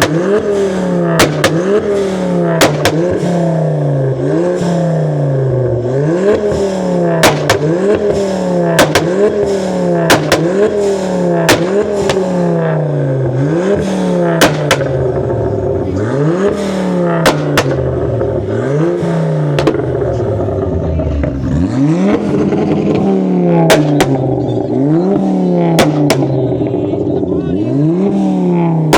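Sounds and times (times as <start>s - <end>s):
car engine revving in blips: 0.0s - 28.9s
exhaust bangs: 0.0s - 28.9s.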